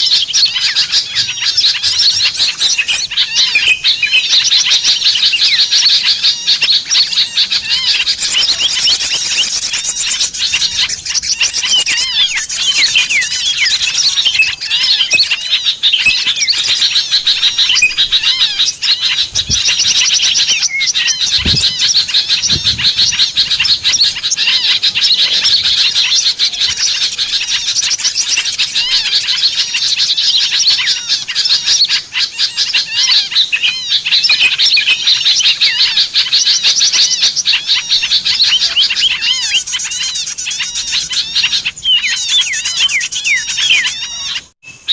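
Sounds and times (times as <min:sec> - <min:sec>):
small birds chirping and trilling: 0:00.0 - 0:44.9.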